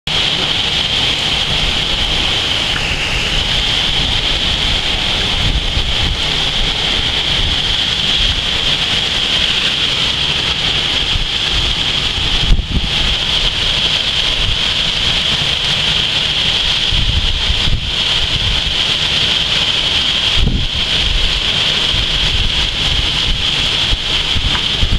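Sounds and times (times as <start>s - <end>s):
steady high hiss: 0.1s - 24.9s
wind buffeting microphone: 0.1s - 24.9s
wind gusting: 0.1s - 24.9s.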